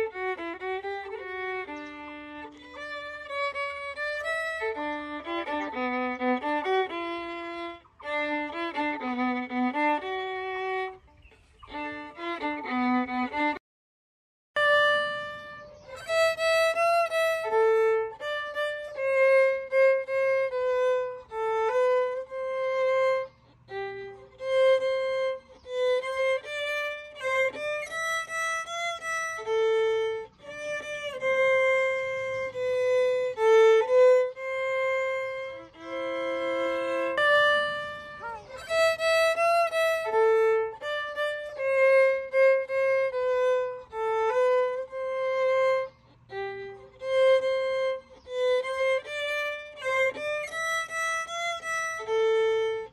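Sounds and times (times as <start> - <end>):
solo violin melody: 0.0 - 13.6, 14.6 - 52.9.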